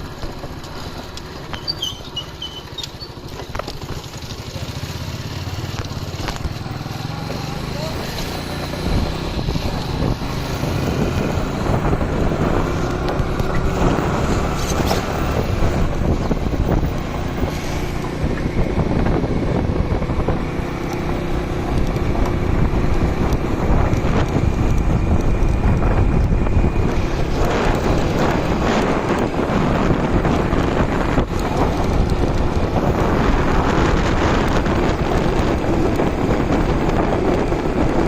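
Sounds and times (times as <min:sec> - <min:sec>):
motorcycle running: 0:00.0 - 0:38.0
wind buffeting microphone: 0:05.6 - 0:38.0.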